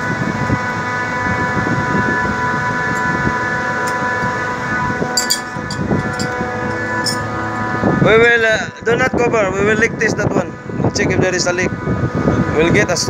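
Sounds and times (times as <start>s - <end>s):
chiller machinery whine: 0.0s - 13.0s.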